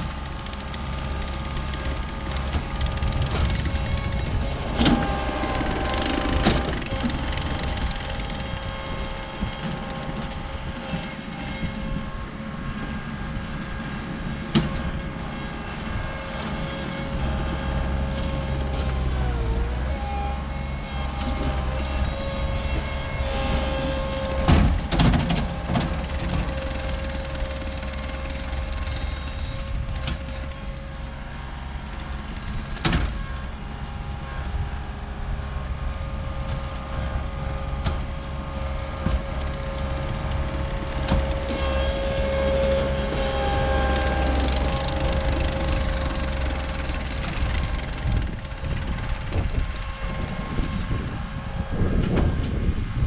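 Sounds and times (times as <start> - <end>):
diesel engine whining: 0.0 - 53.0.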